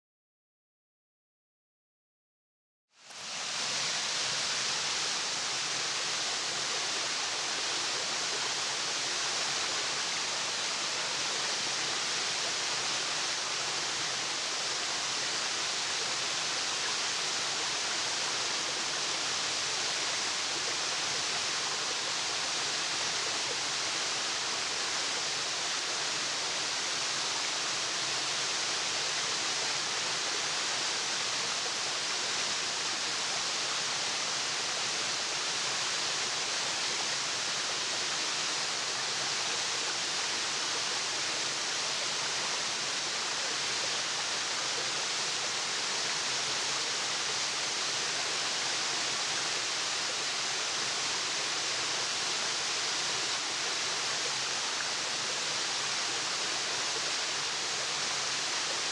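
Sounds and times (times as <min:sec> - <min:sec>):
waterfall hiss: 0:03.0 - 0:58.9.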